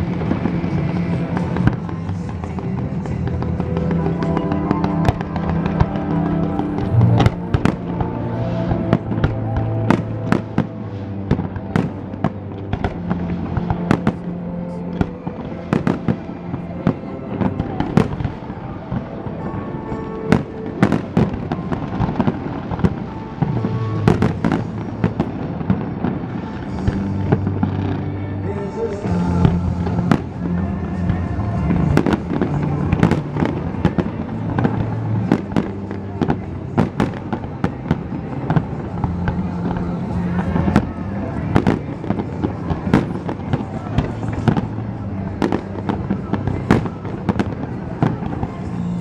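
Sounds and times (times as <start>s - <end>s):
fireworks bursting: 0.0s - 49.0s
music over loudspeakers: 0.0s - 49.0s.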